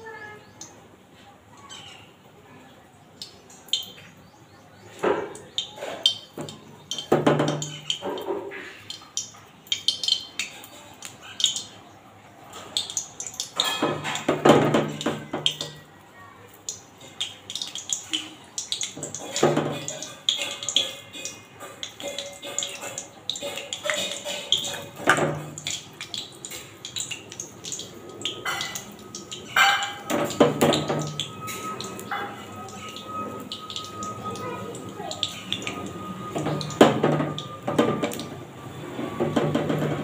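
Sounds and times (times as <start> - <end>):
batter frying in hot oil: 0.0 - 40.0
utensils clinking on a pan: 5.0 - 11.8, 12.5 - 15.9, 16.8 - 40.0.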